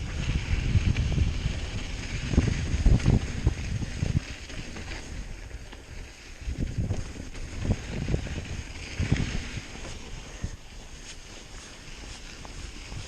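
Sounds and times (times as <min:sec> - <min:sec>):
mountain bike rumbling on dirt trail: 0:00.0 - 0:13.0
wind buffeting the microphone: 0:00.0 - 0:13.0.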